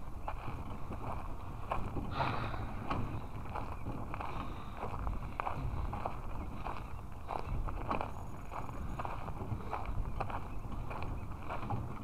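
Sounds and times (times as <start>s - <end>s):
footsteps crunching on gravel: 0.0s - 12.0s
wind rumble on microphone: 0.0s - 12.0s.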